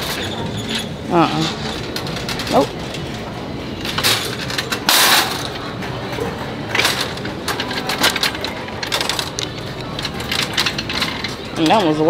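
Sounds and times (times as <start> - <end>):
shopping cart rattling: 0.0 - 12.0.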